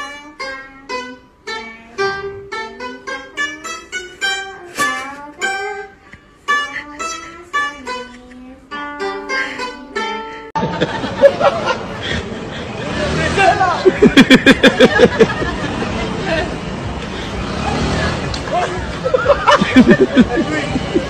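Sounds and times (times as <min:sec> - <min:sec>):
plucked lute notes bending: 0:00.0 - 0:11.1, 0:11.7 - 0:21.0.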